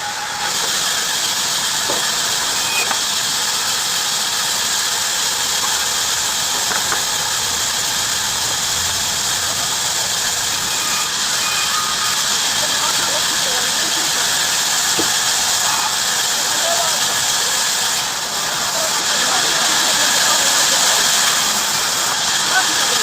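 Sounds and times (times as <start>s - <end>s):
bandsaw cutting wood: 0.0s - 23.0s.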